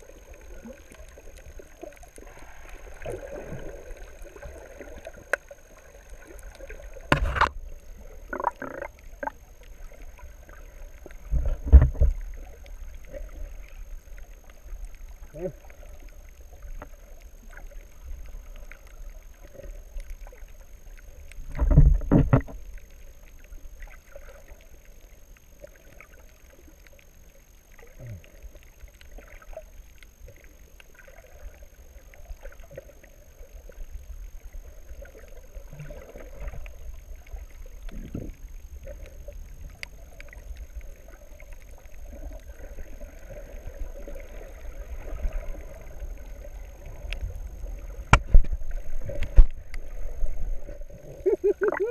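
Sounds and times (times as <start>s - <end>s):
underwater water rumble: 0.0s - 51.9s
faint clicks: 0.3s - 50.8s.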